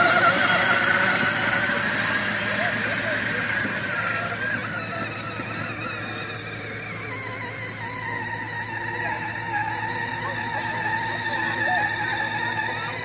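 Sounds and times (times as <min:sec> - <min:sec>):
electric toy motor whine: 0:00.0 - 0:13.0.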